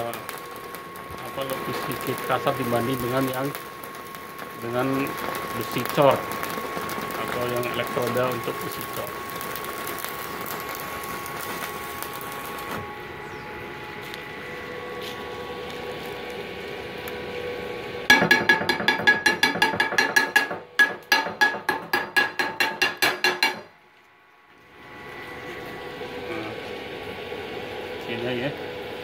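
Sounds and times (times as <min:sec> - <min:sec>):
welding arc crackling: 0:00.0 - 0:23.8, 0:24.7 - 0:29.0
welder hum: 0:00.0 - 0:29.0.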